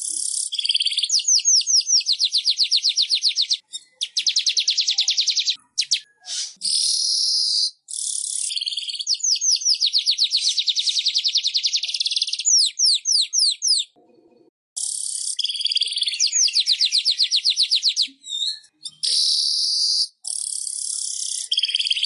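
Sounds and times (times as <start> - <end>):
bird song trills: 0.0 - 14.0, 14.8 - 22.0.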